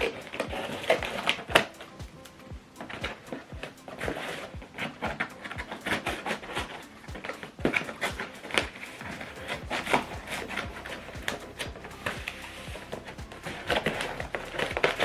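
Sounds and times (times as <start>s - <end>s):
low thumps: 0.0s - 15.0s.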